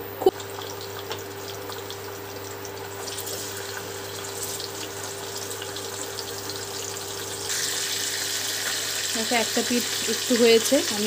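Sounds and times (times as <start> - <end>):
fish sizzling in hot oil: 0.4 - 11.0.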